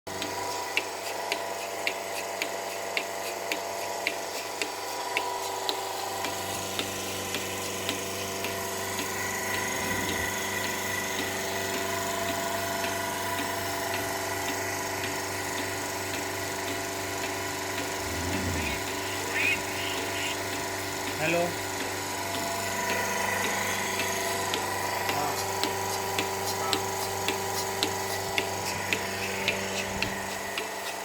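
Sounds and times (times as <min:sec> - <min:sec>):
machine motor humming: 0:05.0 - 0:31.0.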